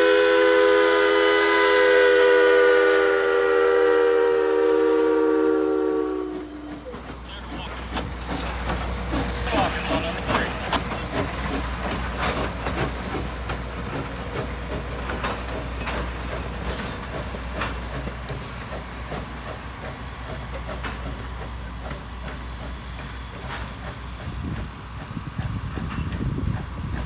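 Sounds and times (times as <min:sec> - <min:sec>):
low rumble of train: 0:00.0 - 0:27.0.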